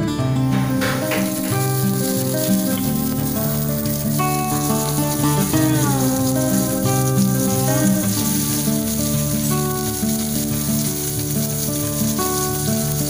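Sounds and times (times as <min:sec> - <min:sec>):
background music: 0:00.0 - 0:13.0
oil sizzling in frying pan: 0:00.4 - 0:13.0.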